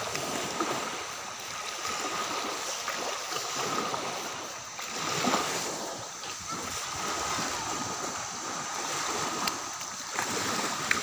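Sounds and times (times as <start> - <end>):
waves washing on beach: 0.0 - 11.0.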